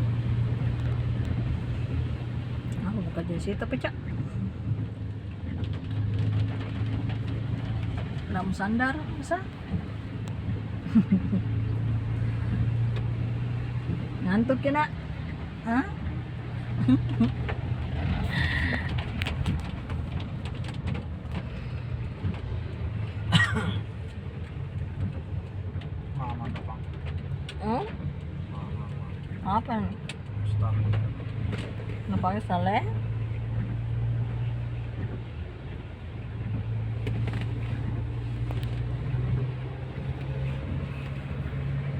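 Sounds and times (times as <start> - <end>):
car engine and road noise: 0.0 - 41.9
vehicle humming: 0.0 - 41.9.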